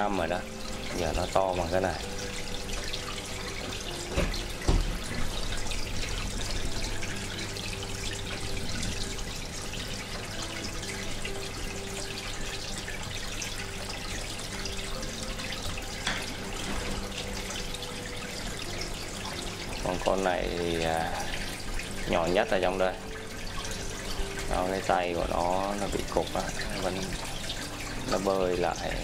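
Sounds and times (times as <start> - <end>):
running water trickling: 0.0 - 29.0.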